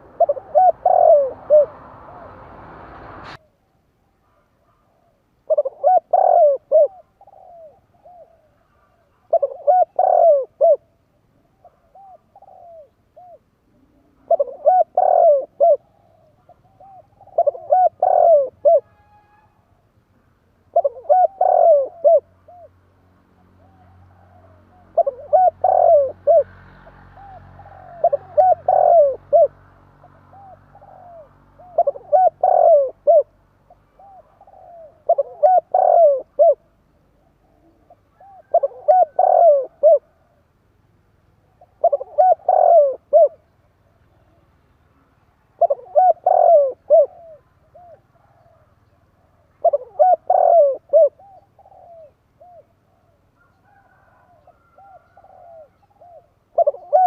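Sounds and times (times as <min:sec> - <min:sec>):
dove cooing: 0:00.0 - 0:02.6, 0:04.2 - 0:19.6, 0:20.6 - 0:22.8, 0:23.4 - 0:40.5, 0:41.5 - 0:57.0.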